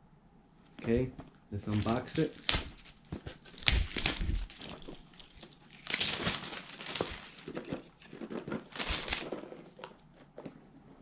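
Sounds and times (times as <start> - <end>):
packaging crinkling: 1.2 - 10.6.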